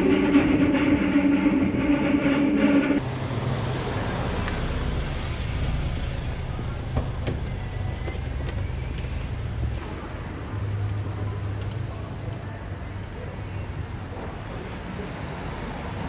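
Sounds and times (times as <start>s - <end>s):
moving vehicle rumble: 0.0s - 16.0s.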